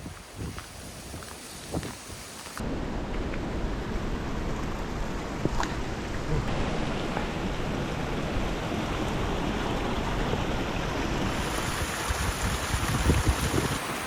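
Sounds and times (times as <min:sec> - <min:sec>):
wind buffeting microphone: 0:00.0 - 0:02.3, 0:03.2 - 0:14.0.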